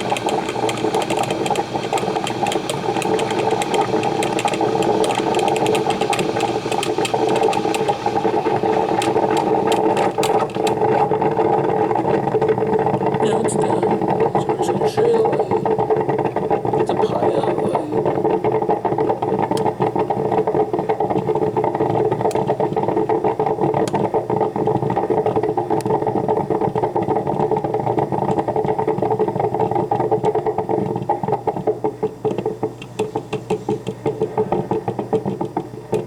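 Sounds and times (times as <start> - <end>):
coffee maker gurgling and bubbling: 0.0 - 36.0.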